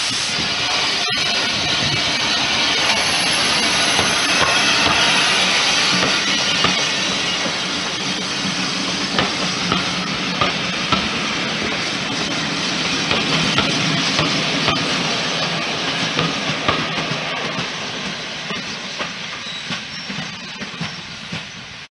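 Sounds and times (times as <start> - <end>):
steady steam hiss: 0.0 - 21.9
train wheels clicking on rail joints: 0.0 - 21.9.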